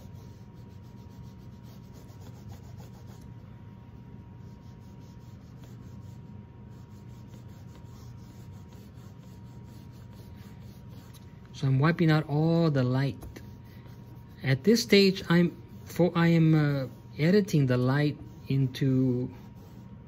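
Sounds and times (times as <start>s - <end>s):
cloth rag rubbing canvas: 0.0s - 11.1s, 12.0s - 20.0s.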